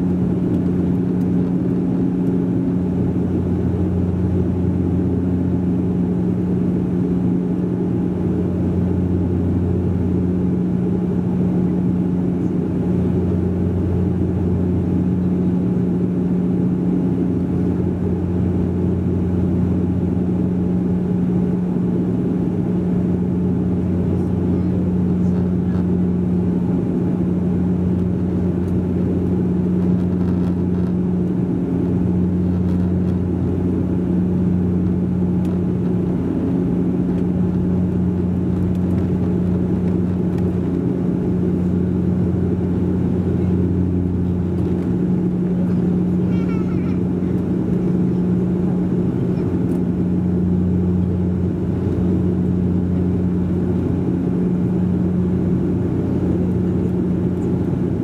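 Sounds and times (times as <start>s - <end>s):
constant low hum: 0.0s - 58.0s
turboprop engines droning: 0.0s - 58.0s.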